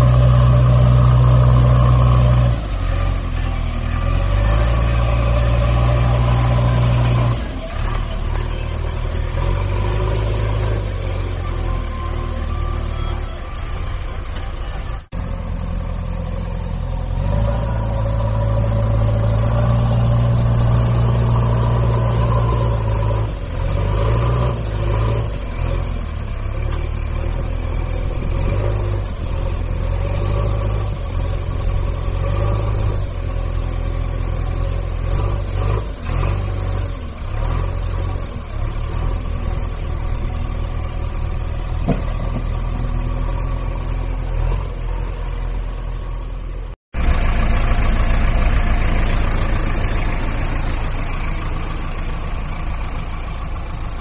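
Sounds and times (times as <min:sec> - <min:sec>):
large engine idling: 0:00.0 - 0:54.0.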